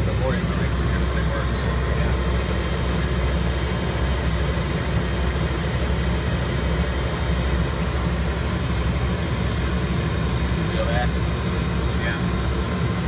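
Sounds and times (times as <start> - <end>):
turboprop engine and propeller drone: 0.0 - 13.0.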